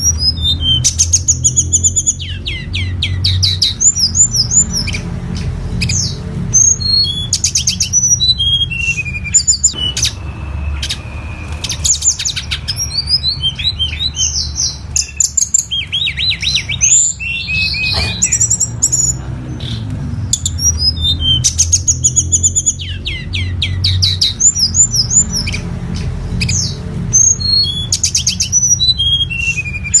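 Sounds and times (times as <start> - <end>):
songbird singing trills and chirps: 0.0 - 30.0.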